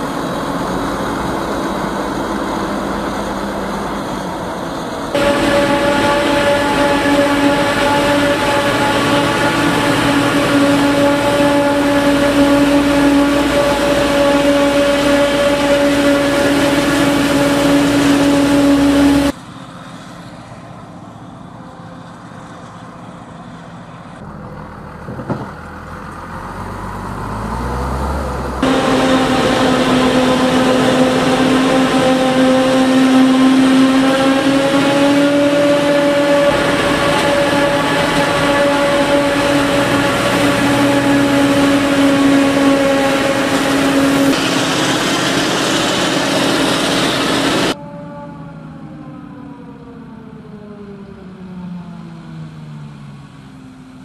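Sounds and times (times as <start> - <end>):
forage harvester engine whining: 0.0 - 48.2.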